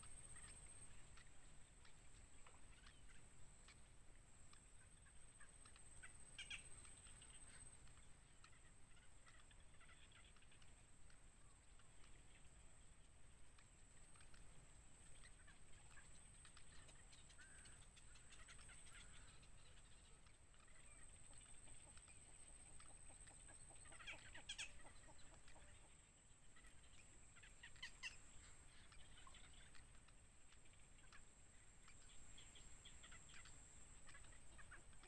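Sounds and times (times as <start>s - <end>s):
chicks cheeping: 0.0s - 35.0s.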